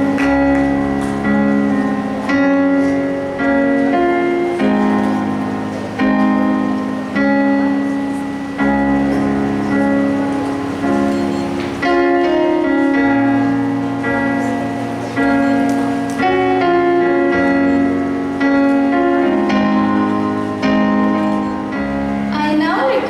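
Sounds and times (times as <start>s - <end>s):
slow instrumental music chords: 0.0s - 22.4s.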